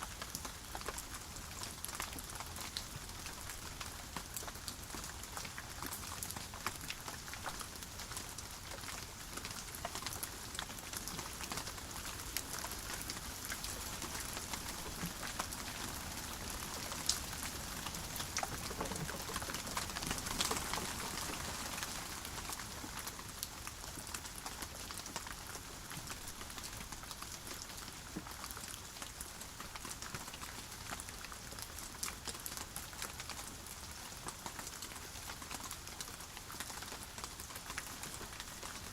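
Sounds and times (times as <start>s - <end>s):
steady rainfall: 0.0s - 38.9s
raindrops ticking: 0.1s - 33.2s.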